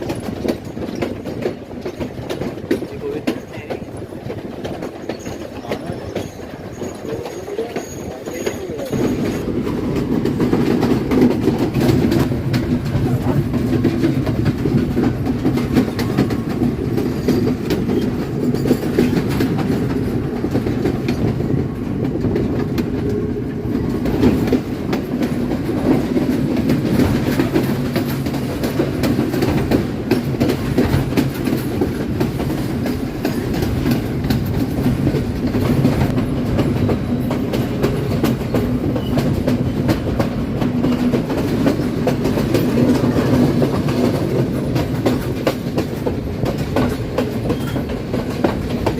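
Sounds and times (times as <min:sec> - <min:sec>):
train rumbling: 0:00.0 - 0:48.9
wheels clattering over rail joints: 0:00.0 - 0:48.9.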